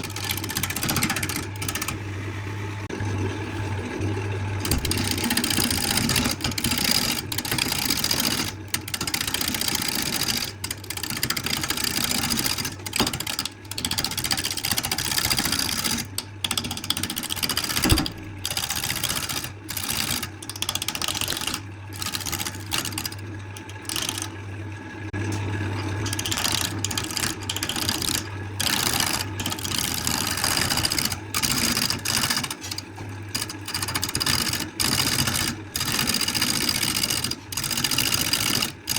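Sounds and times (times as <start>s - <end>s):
woodworking machine humming: 0.0s - 3.8s, 4.4s - 38.9s.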